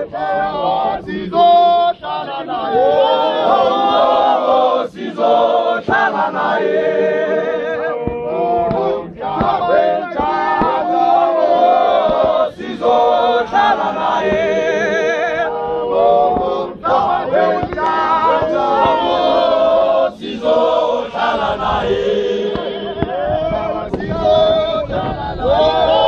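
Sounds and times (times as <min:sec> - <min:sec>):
men singing and chanting: 0:00.0 - 0:26.0.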